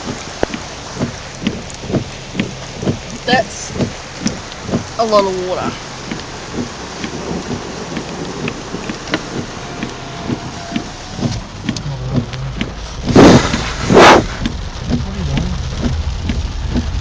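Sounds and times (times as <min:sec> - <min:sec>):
drops ticking: 0:00.0 - 0:13.6, 0:14.4 - 0:17.0
rain falling: 0:00.0 - 0:17.0
thunder rumbling: 0:00.0 - 0:17.0.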